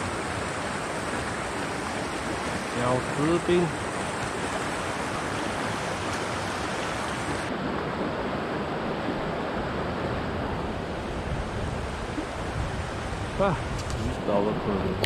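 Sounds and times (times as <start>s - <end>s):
mountain stream flowing: 0.0s - 15.0s.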